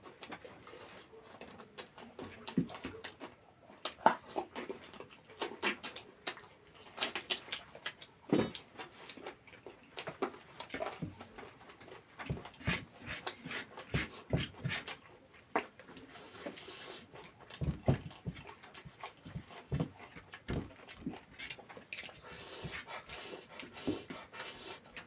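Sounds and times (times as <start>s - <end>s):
wet chewing and lip-smacking: 0.0s - 25.0s.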